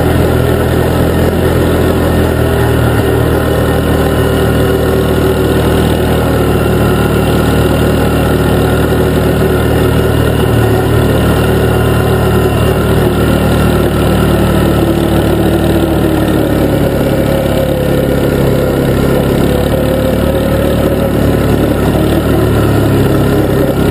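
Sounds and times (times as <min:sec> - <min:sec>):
atv engine running: 0:00.0 - 0:23.9.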